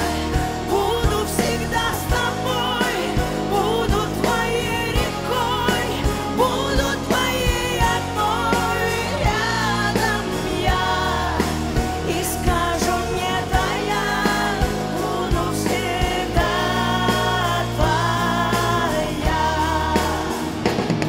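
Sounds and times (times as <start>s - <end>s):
live pop band playing: 0.0s - 21.0s
singing voices: 0.0s - 21.0s
steady drum beat: 0.0s - 21.0s.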